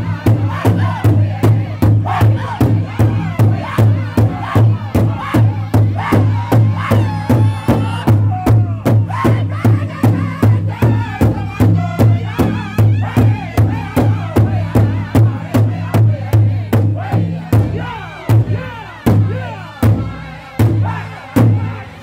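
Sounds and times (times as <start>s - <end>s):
large bass drum beating: 0.0s - 21.8s
high-pitched group singing: 0.0s - 22.0s.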